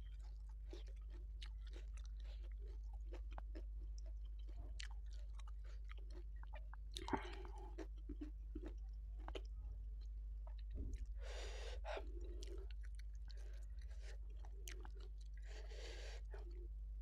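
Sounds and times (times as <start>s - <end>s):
close chewing with wet clicks: 0.0s - 11.2s, 11.9s - 16.6s.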